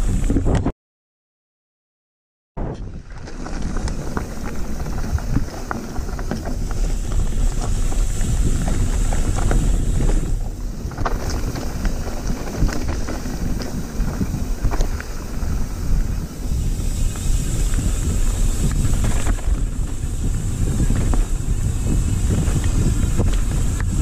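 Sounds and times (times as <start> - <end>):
wind buffeting microphone: 2.6 - 24.0
bike knocking against rocks: 3.0 - 16.4, 17.0 - 24.0
tyres rattling on loose stones: 3.0 - 24.0.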